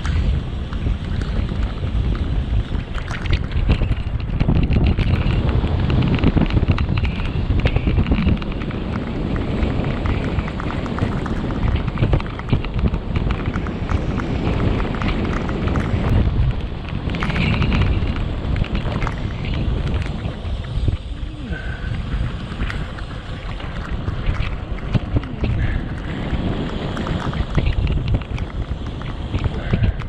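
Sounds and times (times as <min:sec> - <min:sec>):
tyres rumbling over rough asphalt: 0:00.0 - 0:30.0
wind buffeting microphone: 0:00.0 - 0:30.0.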